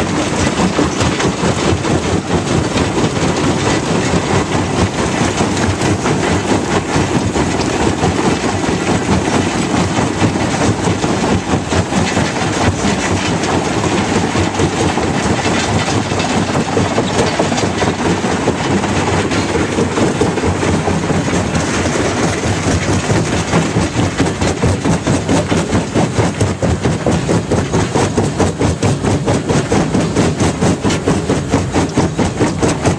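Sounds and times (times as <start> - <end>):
jaw crusher engine running: 0.0 - 32.9
rock rattling and knocking: 0.0 - 32.9.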